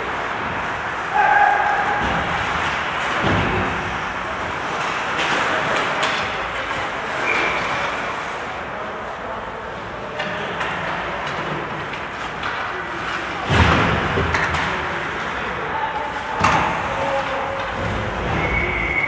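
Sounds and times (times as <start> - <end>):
skates scraping ice: 0.0 - 19.0.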